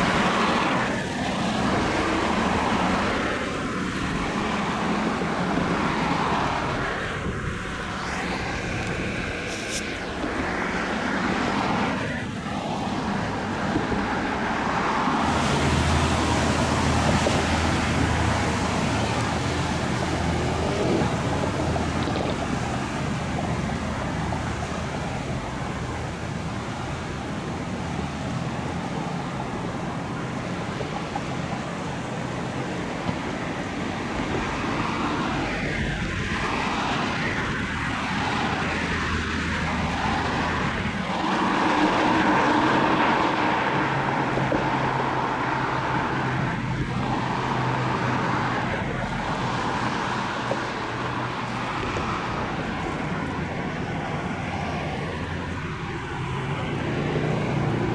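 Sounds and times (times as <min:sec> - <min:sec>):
powerboat engines: 0:00.0 - 0:57.9
rushing water and wake: 0:00.0 - 0:57.9.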